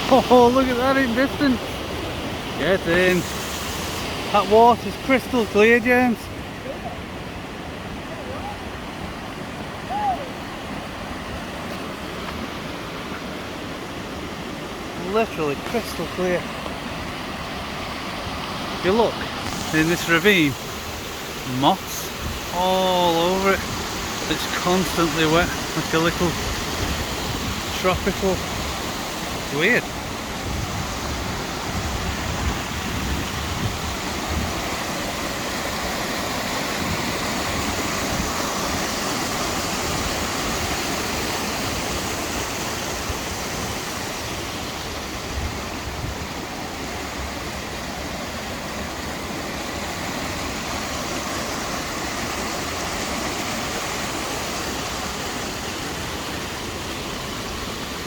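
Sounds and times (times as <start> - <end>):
waterfall rushing water: 0.0 - 58.0.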